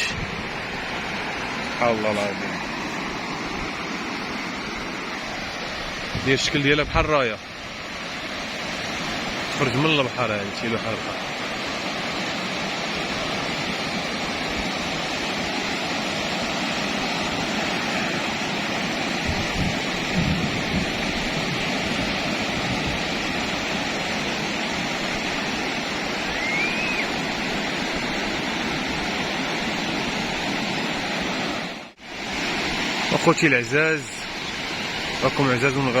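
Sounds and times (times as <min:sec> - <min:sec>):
surf breaking on beach: 0:00.0 - 0:36.0.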